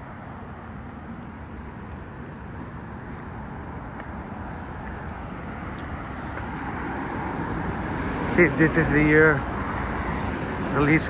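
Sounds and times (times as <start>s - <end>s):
distant road traffic hum: 0.0s - 11.0s.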